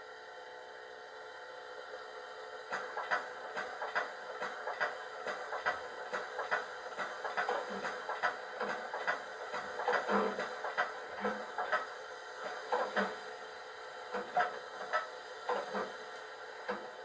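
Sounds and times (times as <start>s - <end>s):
constant steam hiss: 0.0s - 17.0s
model train steam chuffs: 2.7s - 17.0s.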